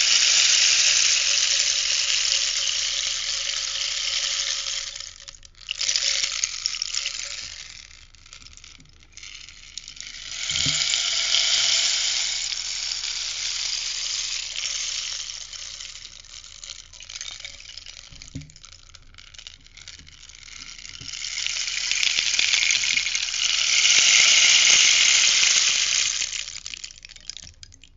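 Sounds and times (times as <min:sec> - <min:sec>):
rainstick pebbles pouring: 0:00.0 - 0:27.9.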